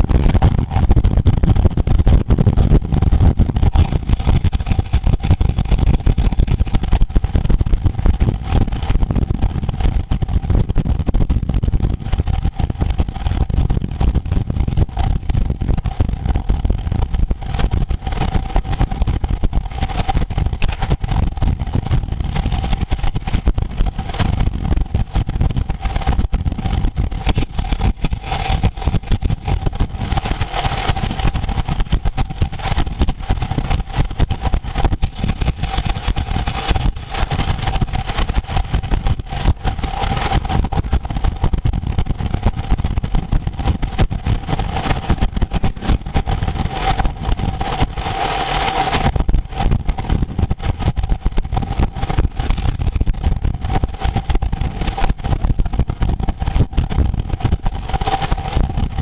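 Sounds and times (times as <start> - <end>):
steady hum: 0.0 - 59.0
wind buffeting microphone: 0.0 - 59.0.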